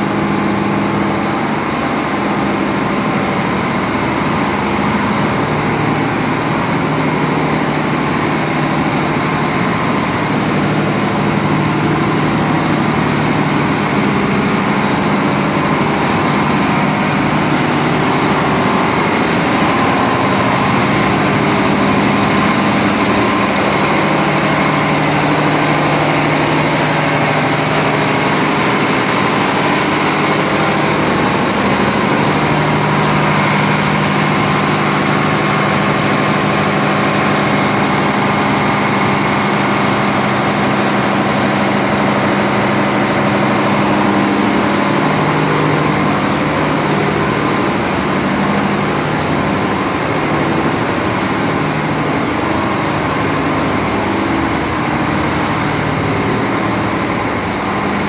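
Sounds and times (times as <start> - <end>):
marine diesel engines droning: 0.0 - 58.0.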